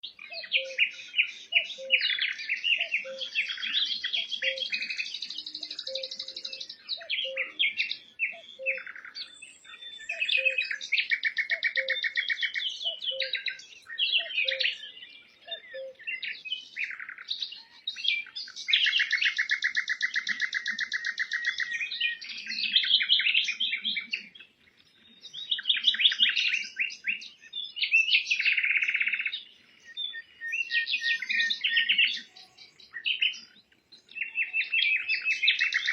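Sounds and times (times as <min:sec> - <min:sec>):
small birds chirping and trilling: 0:00.0 - 0:35.9.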